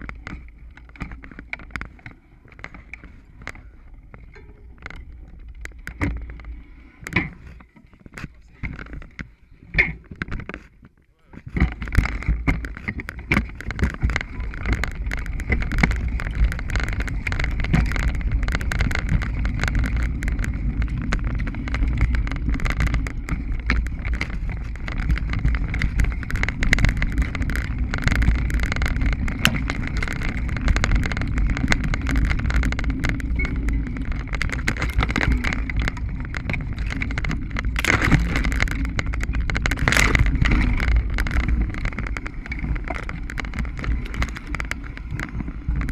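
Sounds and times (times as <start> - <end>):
bike rattling and clattering: 0.0 - 45.9
bike tyres rumbling on dirt: 0.0 - 45.9.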